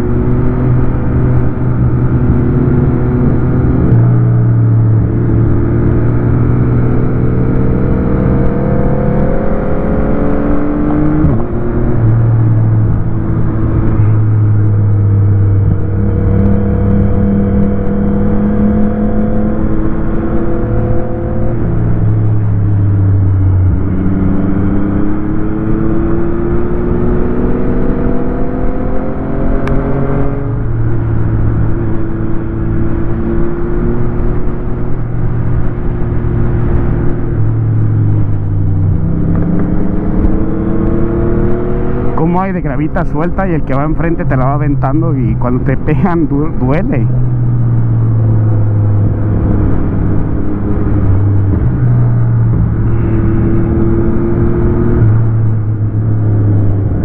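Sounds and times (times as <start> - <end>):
motorcycle engine accelerating: 0.0 - 57.0
rush of noise: 0.0 - 57.0.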